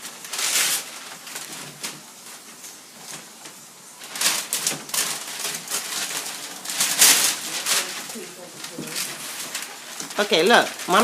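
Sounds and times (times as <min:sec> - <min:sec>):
wrapping paper tearing and crinkling: 0:00.0 - 0:11.0.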